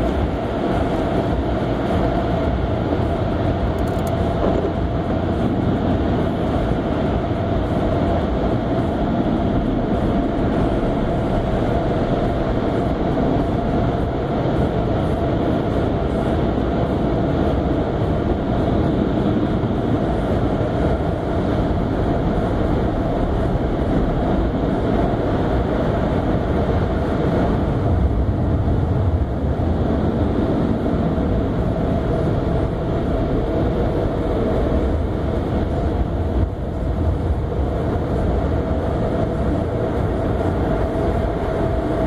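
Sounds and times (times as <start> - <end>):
car idling rumble in cabin: 0.0 - 42.0.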